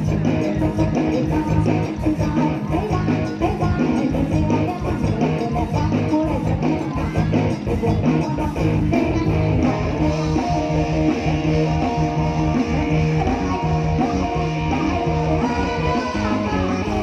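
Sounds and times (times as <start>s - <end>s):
guitar playing: 0.0s - 17.0s
repeating bass line: 0.0s - 17.0s.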